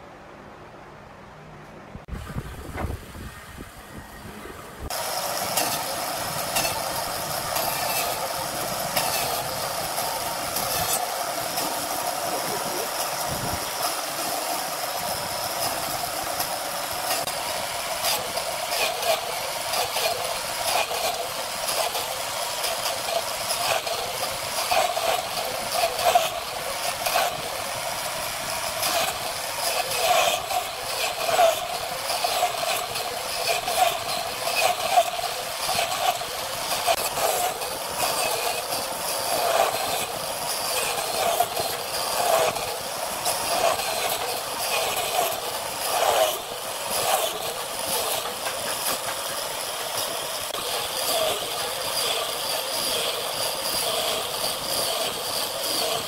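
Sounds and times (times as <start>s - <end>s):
wood lathe motor hum: 2.5s - 56.0s
turning tool knocking and scraping: 4.9s - 56.0s.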